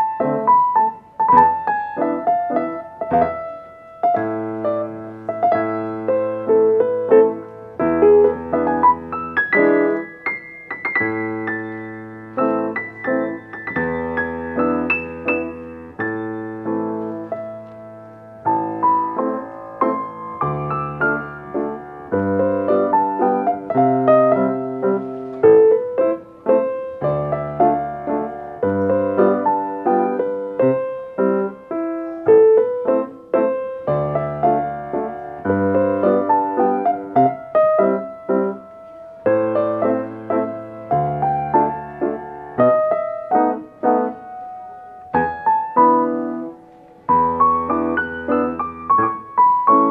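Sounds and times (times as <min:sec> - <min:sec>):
slow classical piano piece: 0:00.0 - 0:49.9.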